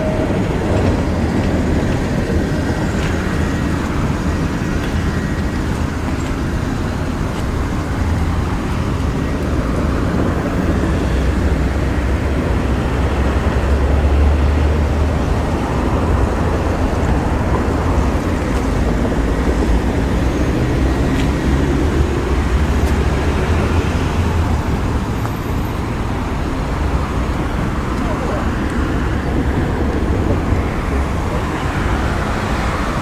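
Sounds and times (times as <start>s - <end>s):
road traffic rumble: 0.0s - 33.0s
wind buffeting microphone: 0.0s - 33.0s.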